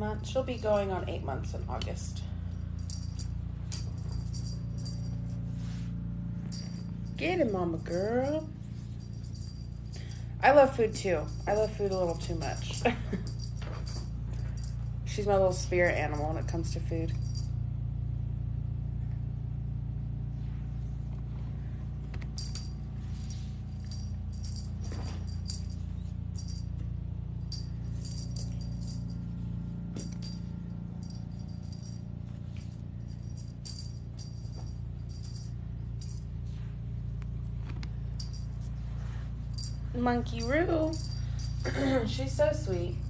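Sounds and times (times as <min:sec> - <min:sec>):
small metallic jingling: 0:00.0 - 0:18.0, 0:21.6 - 0:43.0.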